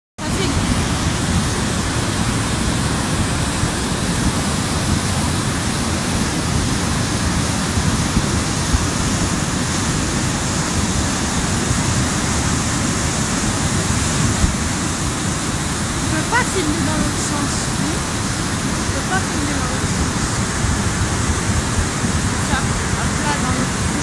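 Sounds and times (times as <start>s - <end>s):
floodwater rushing over boulders: 0.2s - 24.0s.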